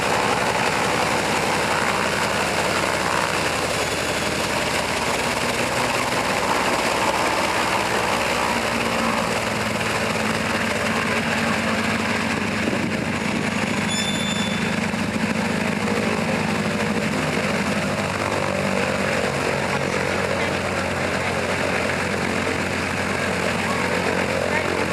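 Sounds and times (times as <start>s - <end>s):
radial engine and propeller running: 0.0s - 24.9s.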